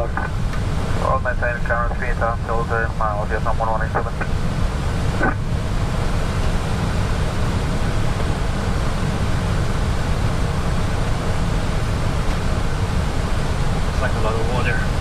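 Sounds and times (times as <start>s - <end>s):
cockpit air rush with rumble: 0.0s - 15.0s.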